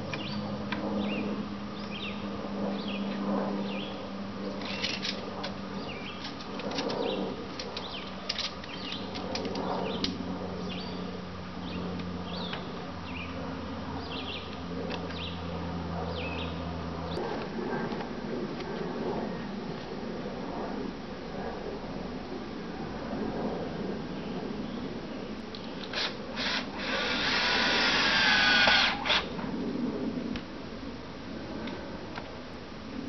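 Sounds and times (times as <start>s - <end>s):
low buzzing hum: 0.0s - 33.0s.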